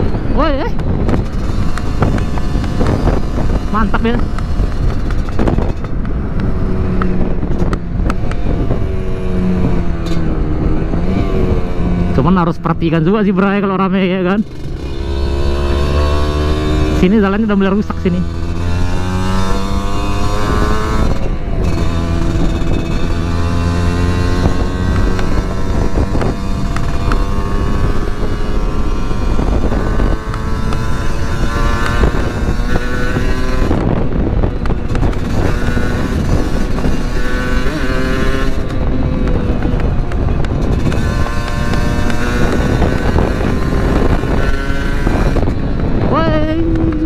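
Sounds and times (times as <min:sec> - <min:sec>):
two-stroke motorcycle engine revving: 0:00.0 - 0:47.0.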